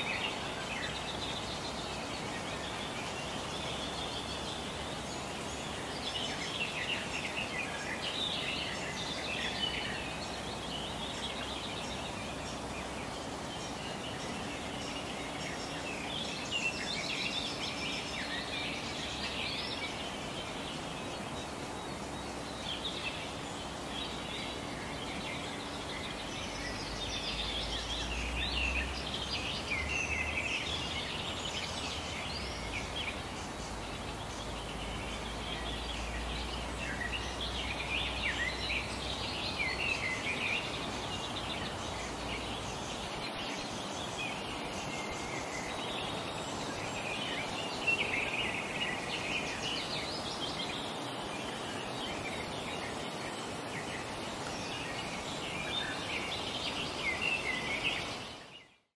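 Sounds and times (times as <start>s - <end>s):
background hiss: 0.0s - 58.9s
birds chirping and singing: 0.0s - 58.9s.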